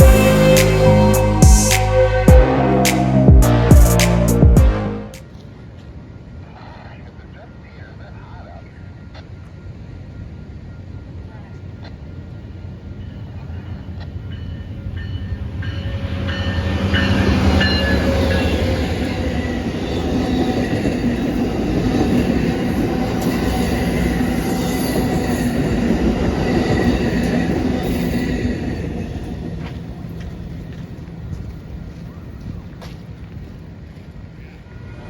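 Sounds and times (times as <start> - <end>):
train rumble: 0.0 - 7.0, 9.1 - 35.0.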